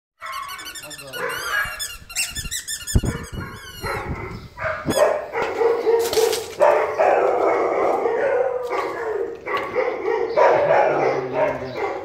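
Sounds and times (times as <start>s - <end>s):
dog barking and yipping: 0.2s - 12.0s.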